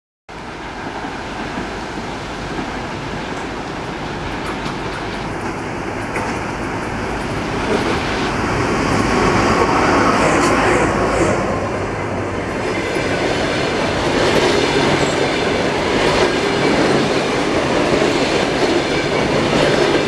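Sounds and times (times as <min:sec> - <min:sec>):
train wheels rumbling on rail: 0:00.3 - 0:20.0.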